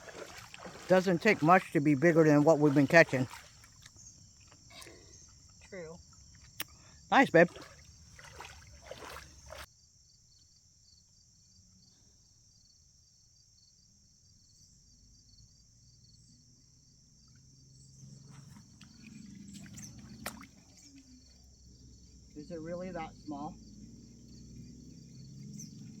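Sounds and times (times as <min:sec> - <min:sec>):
insect chorus trilling: 0:00.0 - 0:11.9, 0:12.5 - 0:26.0.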